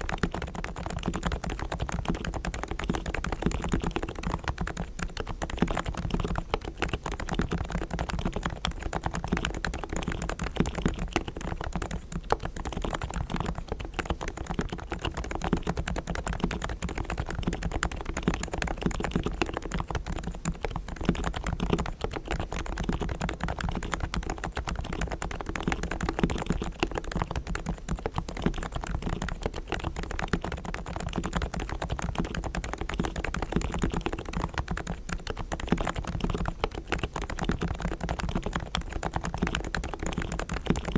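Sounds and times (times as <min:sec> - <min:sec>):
fast typing on keyboard: 0:00.0 - 0:40.9.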